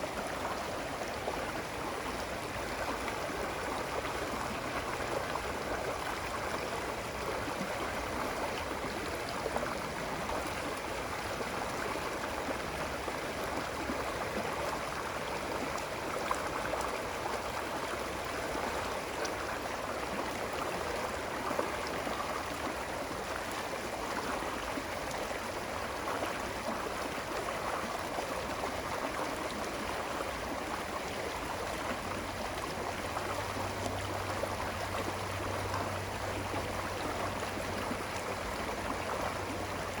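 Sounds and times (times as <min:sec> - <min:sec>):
stream flowing: 0:00.0 - 0:40.0.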